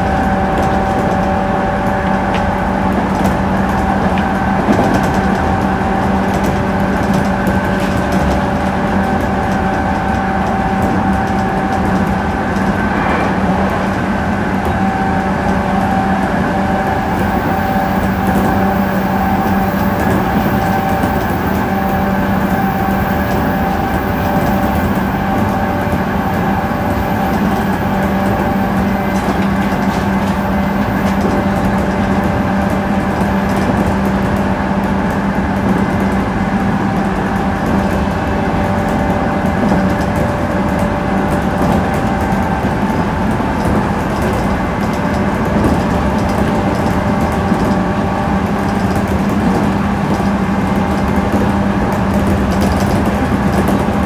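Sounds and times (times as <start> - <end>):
constant rushing noise: 0.0 - 54.0
train equipment hum: 0.0 - 54.0.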